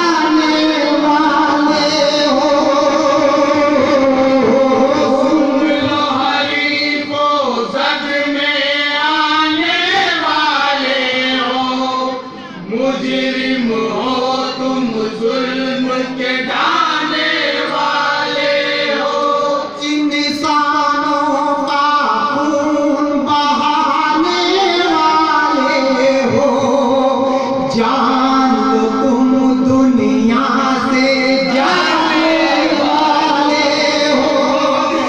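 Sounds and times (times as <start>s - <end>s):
man singing into a microphone: 0.0s - 35.0s.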